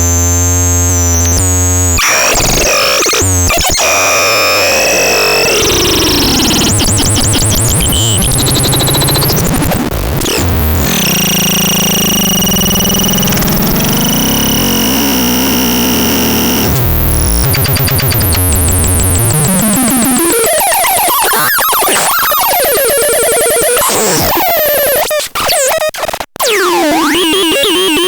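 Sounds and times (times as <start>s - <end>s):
harsh synthesizer tone with whistling: 0.0s - 25.8s, 26.4s - 28.0s.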